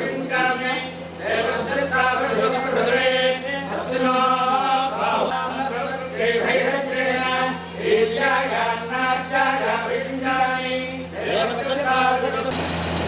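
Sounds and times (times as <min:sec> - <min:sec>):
priests chanting: 0:00.0 - 0:12.5.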